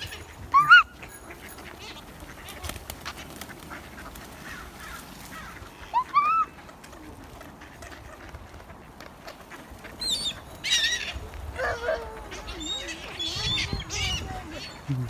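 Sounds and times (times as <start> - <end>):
loud gull squawks: 0.0 - 6.7, 9.2 - 14.9
gulls and ducks calling: 0.0 - 15.0.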